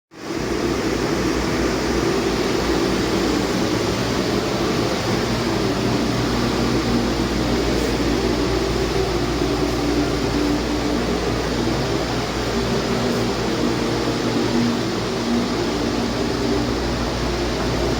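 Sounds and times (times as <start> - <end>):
diesel engine running steadily: 0.2 - 17.9.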